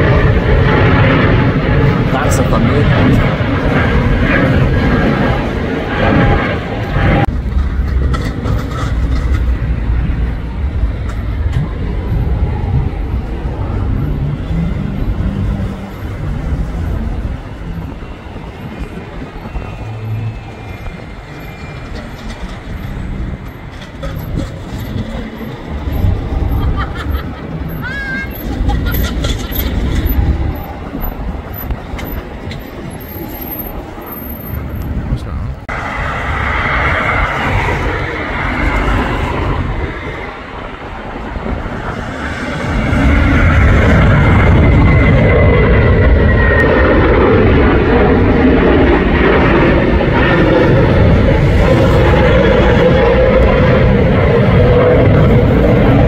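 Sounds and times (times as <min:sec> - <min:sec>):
distant jet airliner roar: 0:00.0 - 0:56.0
wind buffeting microphone: 0:00.0 - 0:56.0.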